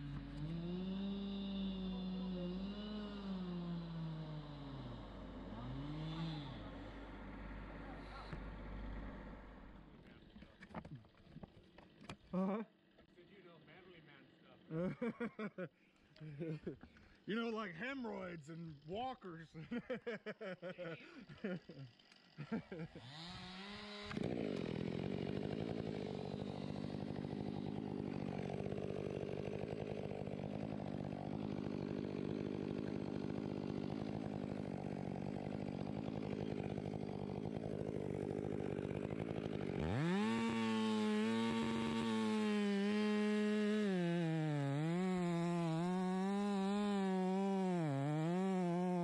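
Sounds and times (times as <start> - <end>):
chainsaw idling and revving: 0.0 - 15.4, 16.3 - 49.0.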